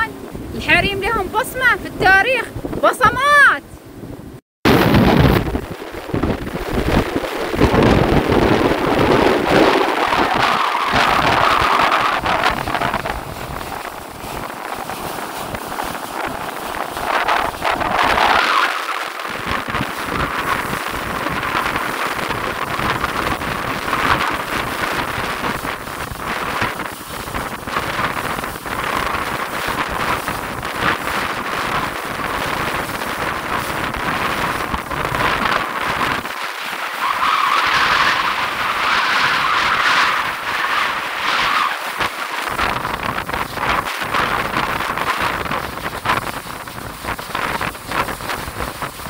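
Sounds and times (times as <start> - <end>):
water rushing: 0.0 - 3.6, 4.7 - 49.0
boat engine: 0.0 - 49.0
wind buffeting microphone: 0.0 - 49.0.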